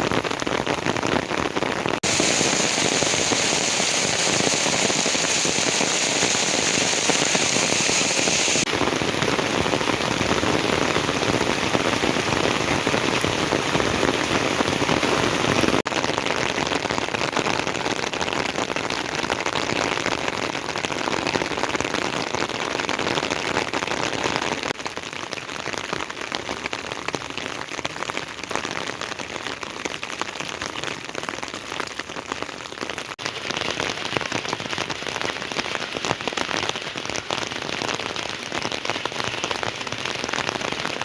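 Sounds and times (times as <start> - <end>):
rain pouring: 0.0 - 41.0.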